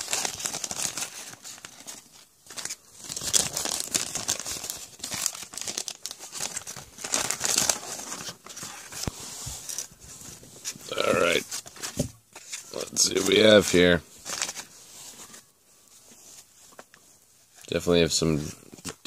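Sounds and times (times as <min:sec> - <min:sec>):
wax paper wrapper crinkling: 0:00.0 - 0:17.0.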